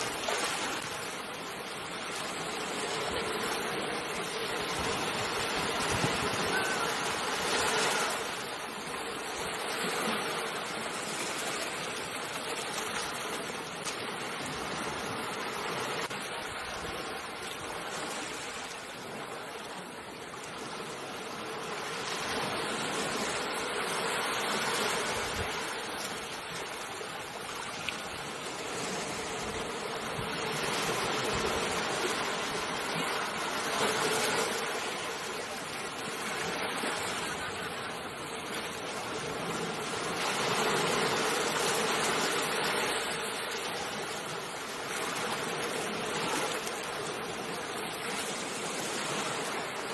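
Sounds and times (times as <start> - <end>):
ocean waves washing onto shore: 0.0 - 49.9.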